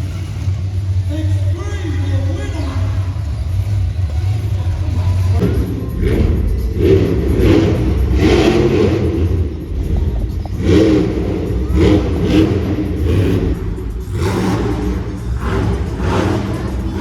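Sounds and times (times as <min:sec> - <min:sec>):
truck engines revving loudly: 0:00.0 - 0:17.0.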